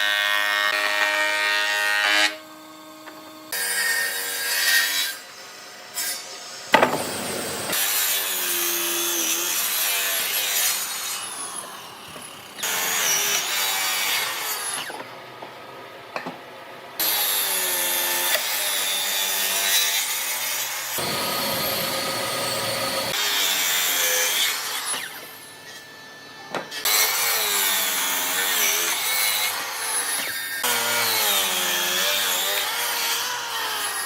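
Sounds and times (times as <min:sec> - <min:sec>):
woodworking tool cutting wood: 0:00.0 - 0:15.2, 0:17.0 - 0:34.0.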